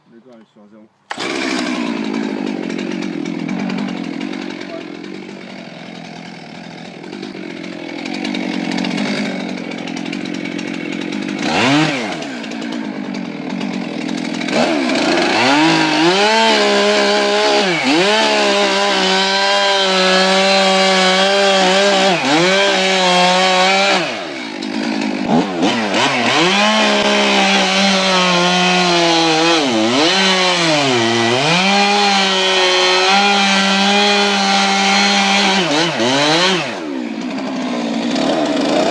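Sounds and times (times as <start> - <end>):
chainsaw engine revving: 1.1 - 38.9.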